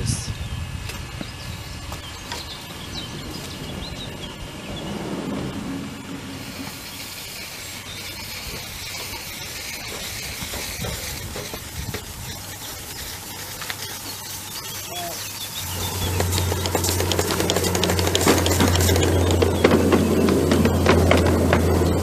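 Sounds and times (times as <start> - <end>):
steam locomotive hissing: 1.5 - 22.0.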